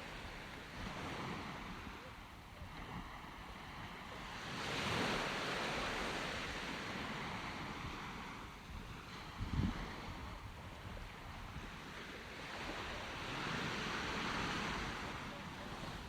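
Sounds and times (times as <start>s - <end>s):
sea waves breaking: 0.0s - 16.0s
wind on microphone: 0.0s - 16.0s.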